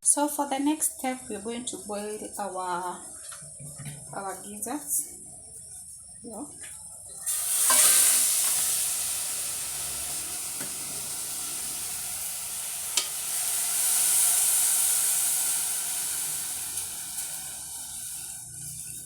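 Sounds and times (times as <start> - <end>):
gizzards sizzling in a pot: 0.1 - 19.0.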